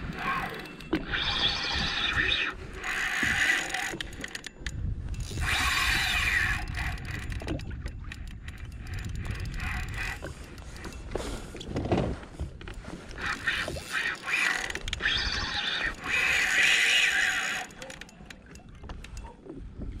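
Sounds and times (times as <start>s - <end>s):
fishing reel whirring: 0.0s - 11.1s, 13.1s - 19.2s.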